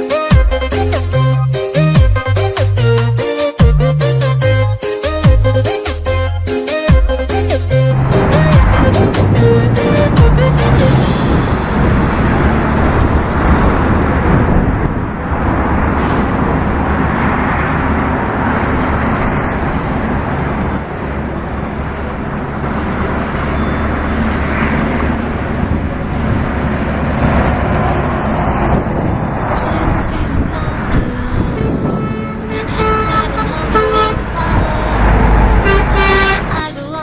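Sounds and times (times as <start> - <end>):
vehicle engine drone: 3.8 - 37.0.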